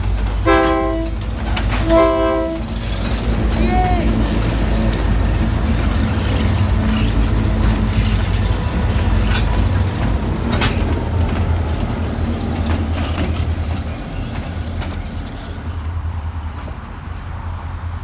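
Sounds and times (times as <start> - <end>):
diesel locomotive rumble: 0.0 - 18.0
train cars clanking: 0.0 - 18.0.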